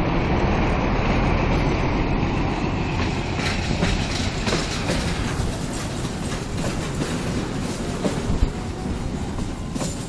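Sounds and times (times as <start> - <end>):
locomotive engine rumble: 0.0 - 10.0
wheels clacking over rail joints: 1.4 - 10.0.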